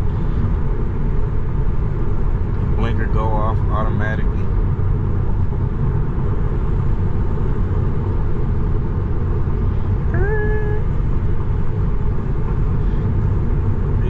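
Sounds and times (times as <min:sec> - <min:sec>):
car cabin tyre and wind rumble: 0:00.0 - 0:14.0.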